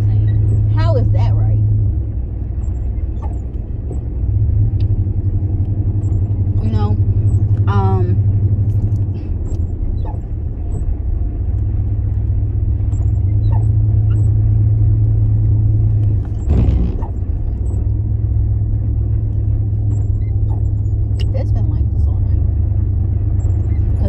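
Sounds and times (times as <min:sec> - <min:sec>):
car cabin rumble: 0:00.0 - 0:24.0.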